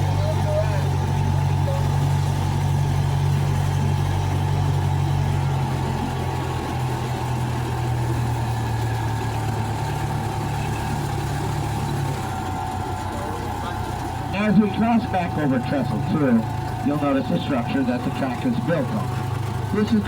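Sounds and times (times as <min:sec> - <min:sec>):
locomotive engine running: 0:00.0 - 0:20.0.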